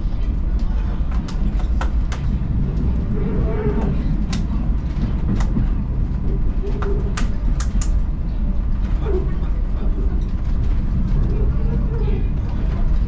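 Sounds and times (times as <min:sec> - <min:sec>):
train rolling on track: 0:00.0 - 0:13.0.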